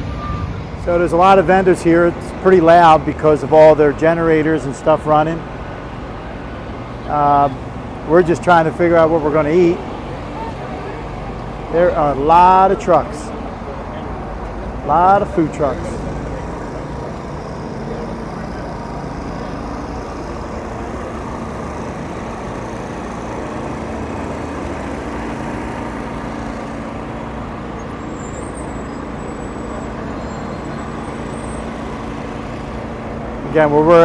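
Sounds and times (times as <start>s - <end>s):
generators humming: 0.0s - 34.0s.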